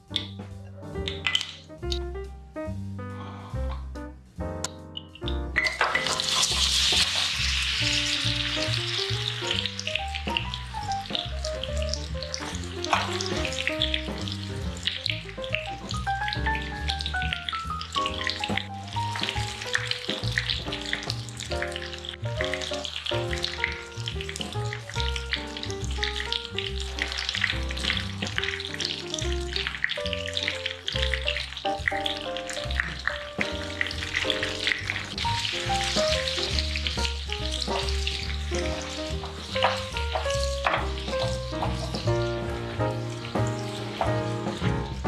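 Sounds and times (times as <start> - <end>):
background music with simple melody: 0.0 - 45.0
bananas sizzling in a pan: 5.1 - 45.0.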